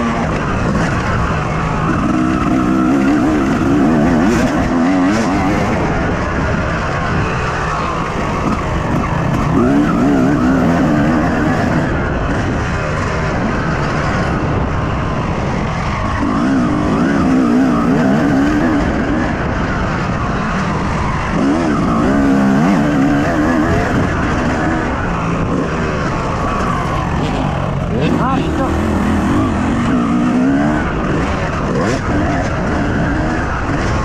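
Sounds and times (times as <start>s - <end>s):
motocross engine revving: 0.0s - 34.0s.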